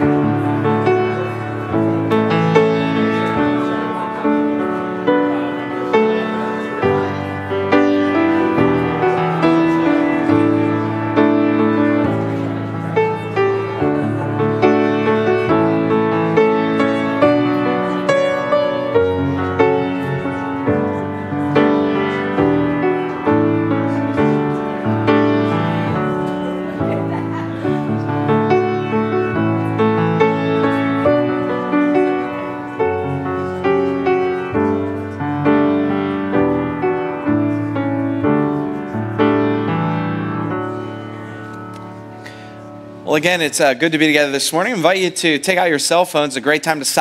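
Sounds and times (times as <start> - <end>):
piano playing slow chords: 0.0 - 44.1.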